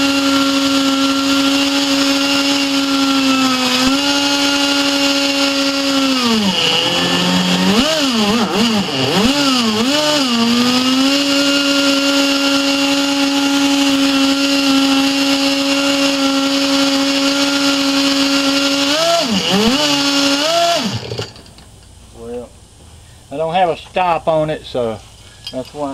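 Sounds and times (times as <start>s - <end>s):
model engine with high fan whine: 0.0s - 21.6s.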